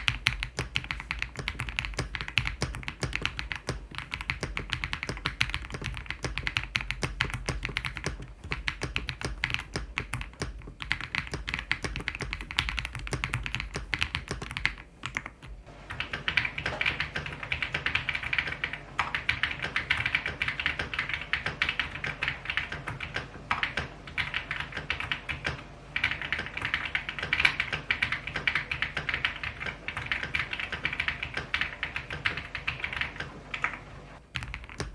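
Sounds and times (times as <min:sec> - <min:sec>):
fast typing on mechanical keyboard: 0:00.0 - 0:33.2, 0:34.2 - 0:34.9.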